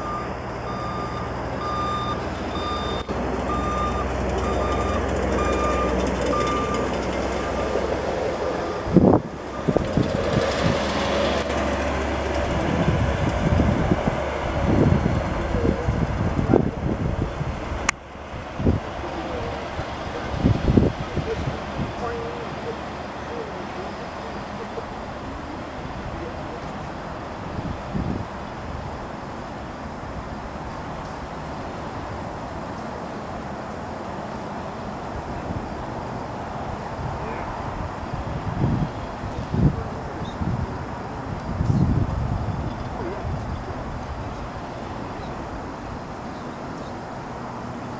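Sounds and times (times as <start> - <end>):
insects chirring: 0.0 - 47.9
pickup truck engine drone: 0.0 - 47.9.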